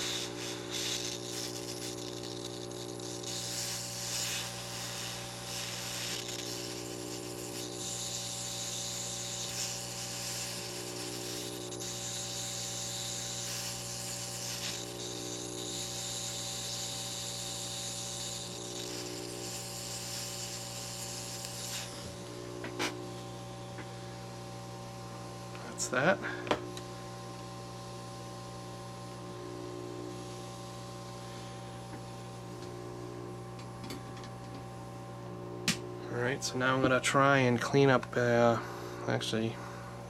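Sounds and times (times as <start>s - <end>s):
electrical hum: 0.0s - 40.0s
low buzz: 0.0s - 40.0s.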